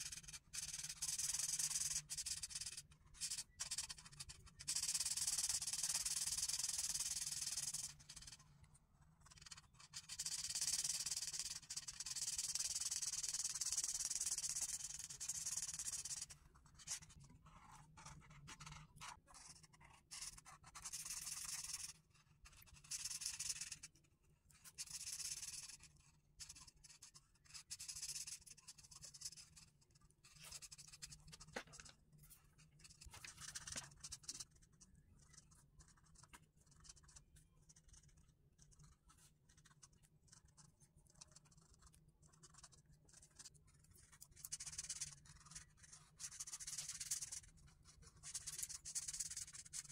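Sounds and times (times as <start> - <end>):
marker scratching on paper: 0.0 - 8.4, 9.2 - 23.9, 24.5 - 32.0, 32.6 - 49.9.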